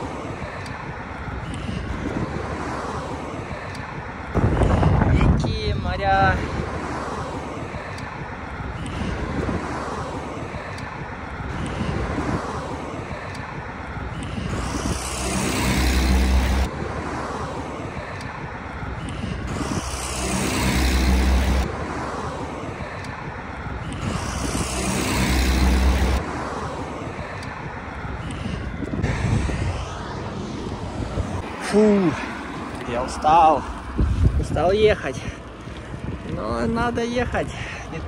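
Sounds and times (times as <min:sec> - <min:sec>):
vehicle passing: 0:00.0 - 0:36.4
road traffic: 0:00.0 - 0:38.0.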